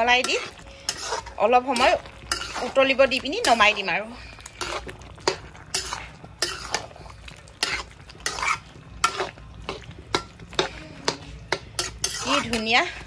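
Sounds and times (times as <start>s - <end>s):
curry frying: 0.0s - 13.0s
spatula scraping metal pan: 0.0s - 13.0s.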